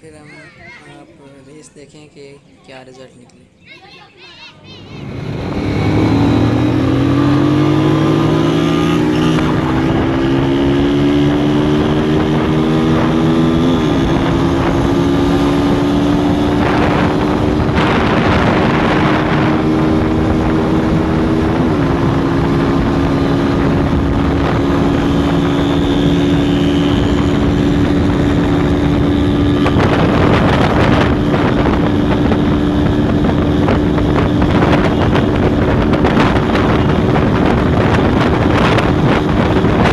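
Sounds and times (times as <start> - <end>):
motorcycle engine accelerating: 4.8 - 39.9
wind buffeting microphone: 5.0 - 39.9.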